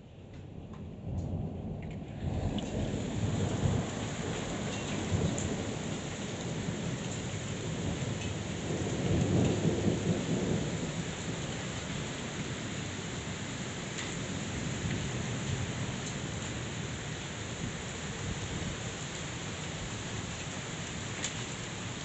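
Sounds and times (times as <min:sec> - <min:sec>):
low rumble of thunder: 0:00.0 - 0:19.0
heavy rain pouring: 0:01.0 - 0:22.0.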